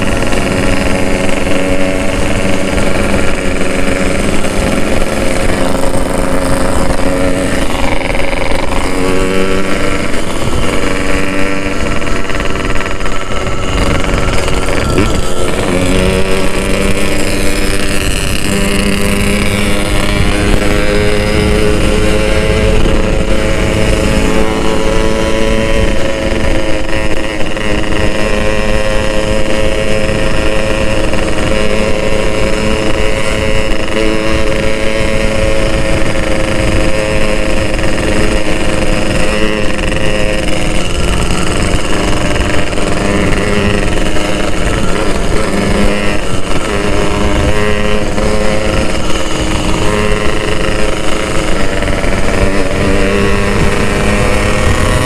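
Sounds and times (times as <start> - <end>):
two-stroke motorcycle engine buzzing: 0.0 - 55.0.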